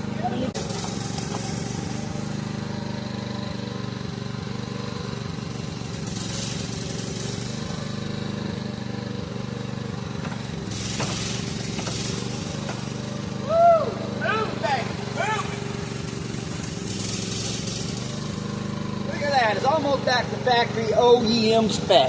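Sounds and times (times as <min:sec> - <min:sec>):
small gasoline engine running: 0:00.0 - 0:22.0.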